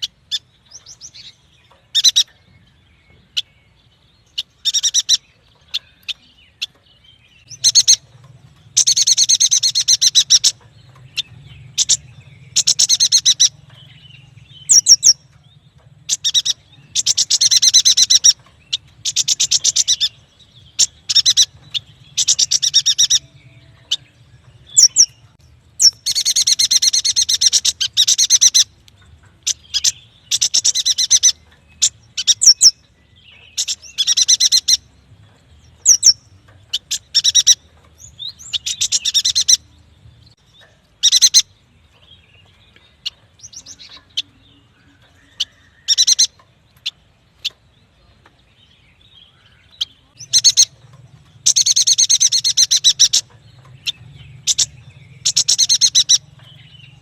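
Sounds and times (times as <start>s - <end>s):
bird chattering trills: 0.0s - 2.5s, 4.2s - 35.0s, 35.6s - 57.0s.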